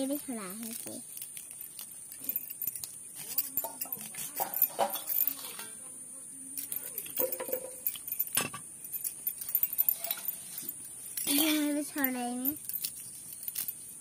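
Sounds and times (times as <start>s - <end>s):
metal clink: 0.6s - 5.8s, 6.6s - 14.0s.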